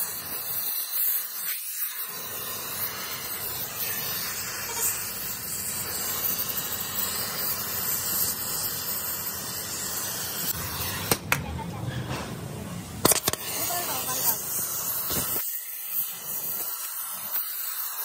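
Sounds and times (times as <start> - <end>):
cutting torch hissing: 0.0 - 11.3, 12.9 - 18.0.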